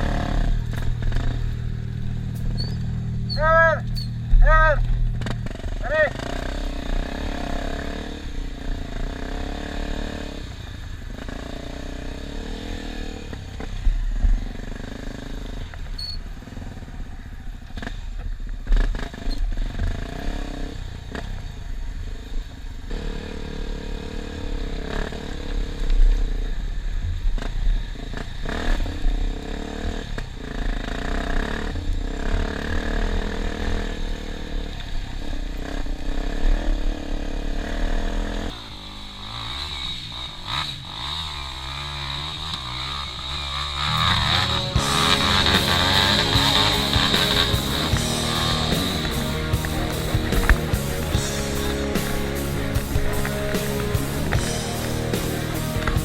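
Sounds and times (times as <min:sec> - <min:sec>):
dirt bike engine revving: 0:00.0 - 0:21.6, 0:22.2 - 0:26.5, 0:27.3 - 0:56.0.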